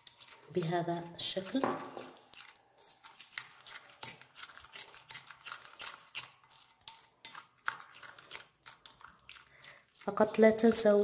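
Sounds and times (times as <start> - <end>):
spoon scraping in glass bowl: 0.0 - 11.0.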